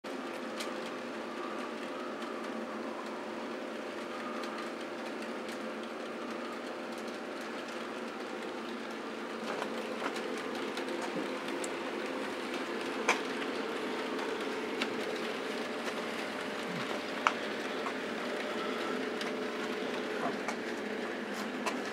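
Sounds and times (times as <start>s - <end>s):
wheels clicking over track: 4.1s - 21.9s.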